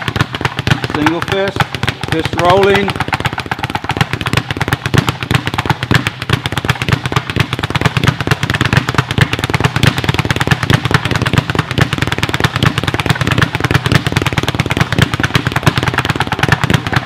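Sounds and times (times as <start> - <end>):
speed bag rattling knocks: 0.0 - 17.0.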